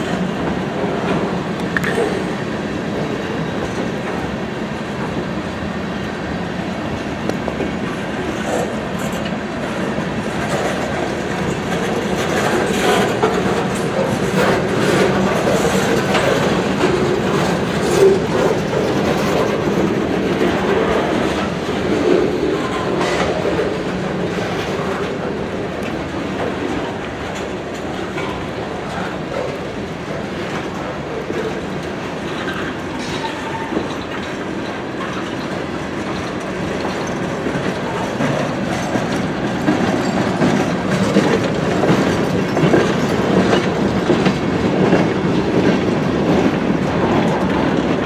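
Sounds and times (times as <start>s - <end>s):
train wheels clickety-clack on rails: 0.0s - 48.0s.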